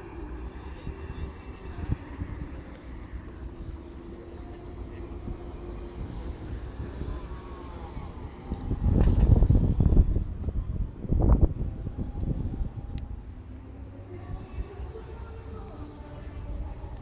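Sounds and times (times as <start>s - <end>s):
street traffic rumble: 0.0s - 17.0s
wind buffeting on microphone: 0.0s - 17.0s.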